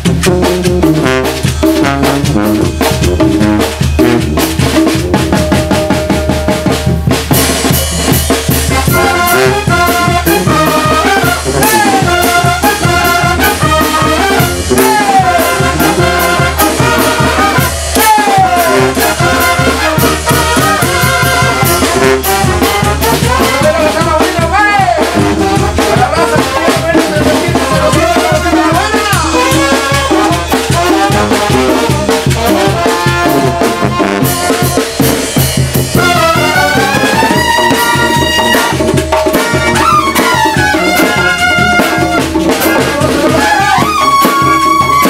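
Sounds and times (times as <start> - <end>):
snare drums and drum kit: 0.0 - 45.0
trumpets and trombones: 0.0 - 45.0.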